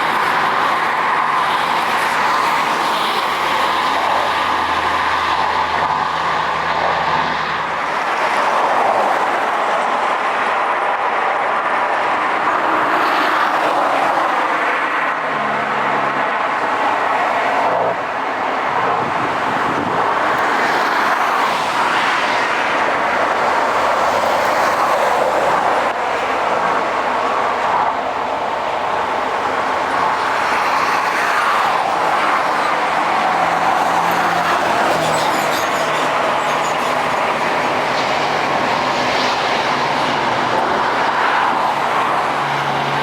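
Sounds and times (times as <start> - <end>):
jet engines roaring: 0.0 - 43.0.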